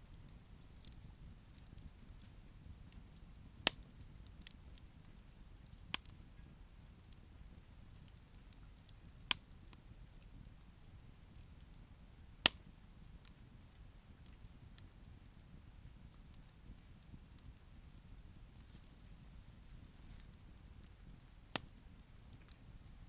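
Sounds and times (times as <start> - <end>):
fire crackles: 0.0 - 23.0
low steady rush of fire: 0.0 - 23.0
wood popping in fire: 0.0 - 23.0.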